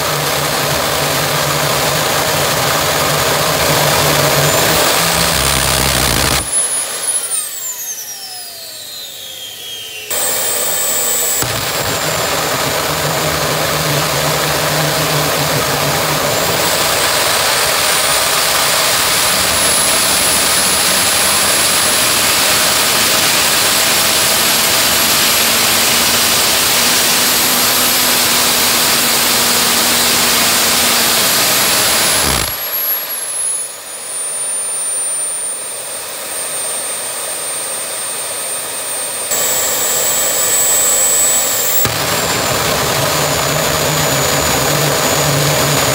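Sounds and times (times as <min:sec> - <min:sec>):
jet engine whining: 0:00.0 - 0:45.9.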